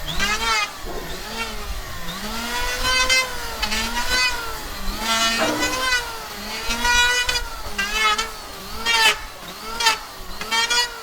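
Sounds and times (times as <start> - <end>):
electric power tool working wood: 0.0 - 11.0.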